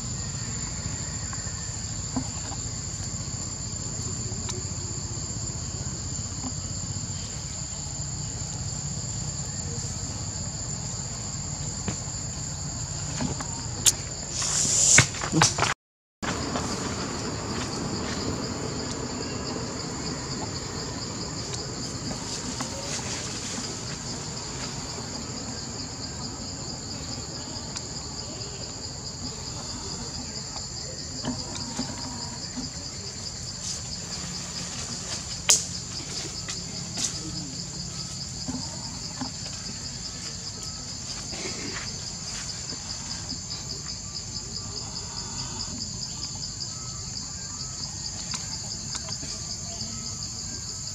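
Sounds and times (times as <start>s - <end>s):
forest insects chorus: 0.0s - 50.9s.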